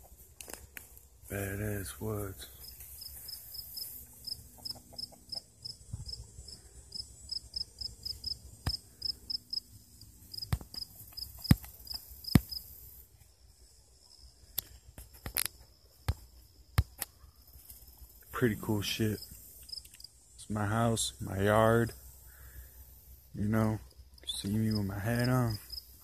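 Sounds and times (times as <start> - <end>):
cricket-like insect chirping: 0.0 - 26.0.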